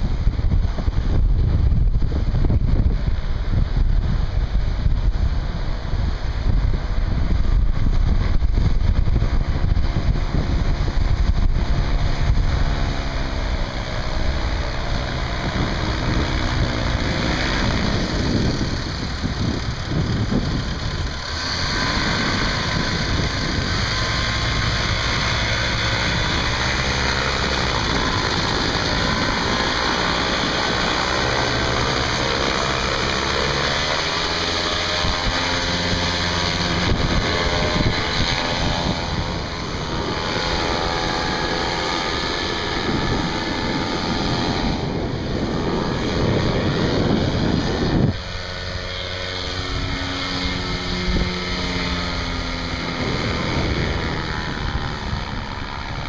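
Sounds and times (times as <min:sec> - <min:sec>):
paramotor engine and propeller: 0:00.0 - 0:56.0
wind rushing over microphone: 0:00.0 - 0:56.0.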